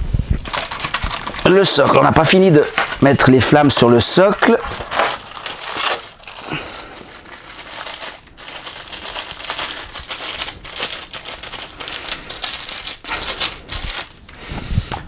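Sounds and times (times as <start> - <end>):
plastic packaging crinkling: 0.4 - 14.4.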